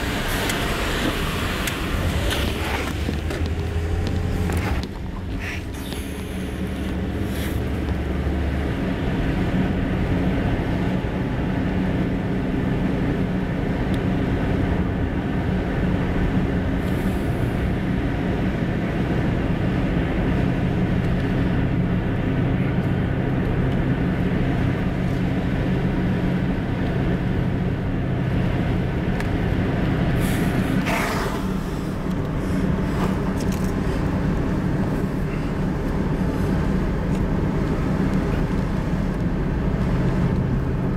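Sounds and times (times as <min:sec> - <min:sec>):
car engine hum and road noise: 0:00.0 - 0:40.9.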